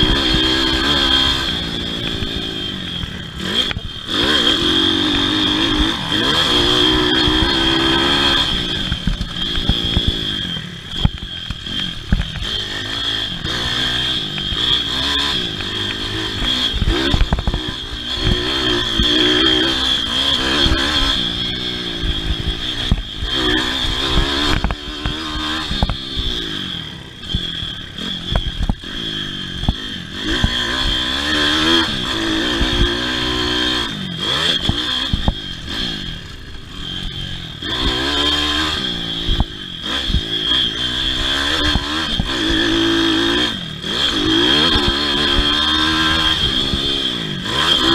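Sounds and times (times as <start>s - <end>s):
small motorbike engine revving: 0.0s - 47.9s.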